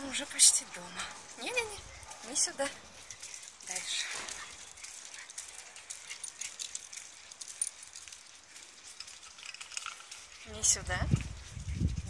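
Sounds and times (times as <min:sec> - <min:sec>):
dog claws clicking on pavement: 0:01.3 - 0:12.0.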